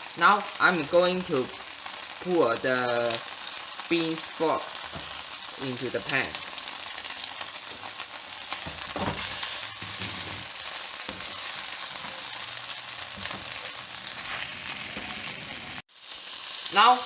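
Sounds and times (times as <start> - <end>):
pork sizzling in hot oil: 0.0 - 17.0.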